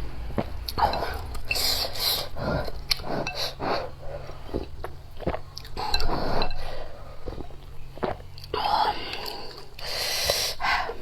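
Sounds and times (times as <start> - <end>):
wet chewing and slurping noodles: 0.0 - 11.0.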